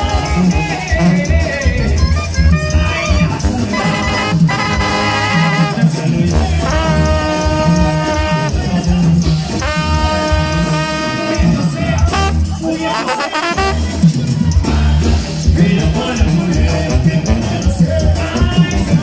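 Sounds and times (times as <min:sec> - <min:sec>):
brass band playing: 0:00.0 - 0:19.0
pulsing bass line: 0:00.0 - 0:19.0.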